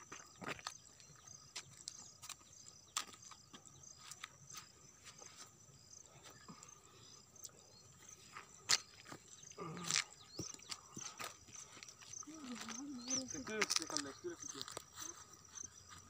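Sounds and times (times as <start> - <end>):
insects chirping in trills: 0.0 - 16.0.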